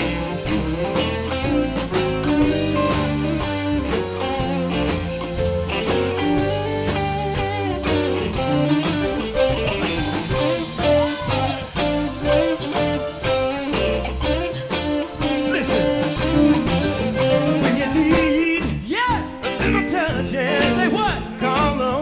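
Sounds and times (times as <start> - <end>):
guitar bending notes: 0.0 - 22.0
soul band playing: 0.0 - 22.0.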